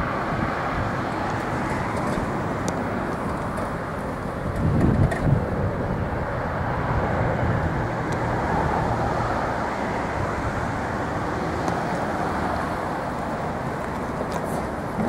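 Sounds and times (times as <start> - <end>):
low rumble of vehicles: 0.0 - 15.0.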